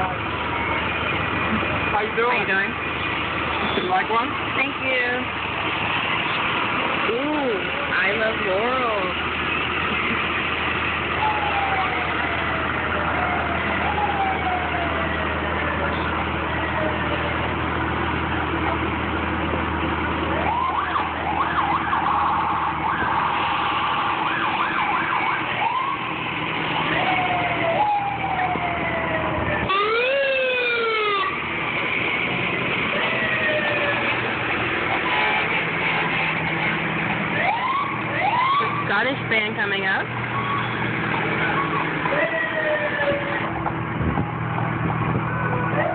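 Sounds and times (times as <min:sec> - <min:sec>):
emergency vehicle sirens: 0:00.0 - 0:45.9
truck engines running: 0:00.0 - 0:45.9.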